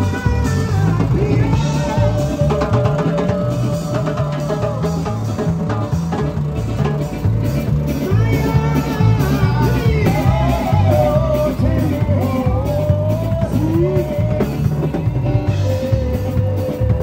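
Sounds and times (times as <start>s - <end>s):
person singing: 0.0s - 6.0s, 7.8s - 17.0s
drum and bass beat: 0.0s - 17.0s
electric guitar: 0.0s - 17.0s
keyboard: 0.0s - 17.0s.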